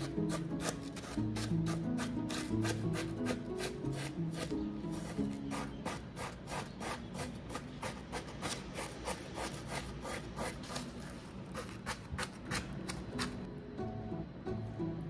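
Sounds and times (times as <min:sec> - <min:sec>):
spoon scraping shaved ice: 0:00.0 - 0:13.4.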